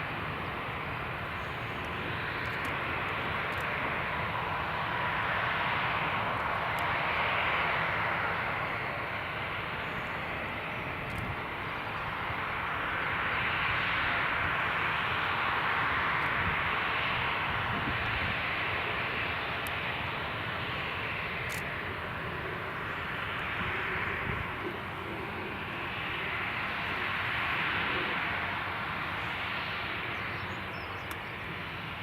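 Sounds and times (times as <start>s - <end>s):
jet engines rushing: 0.0s - 32.0s.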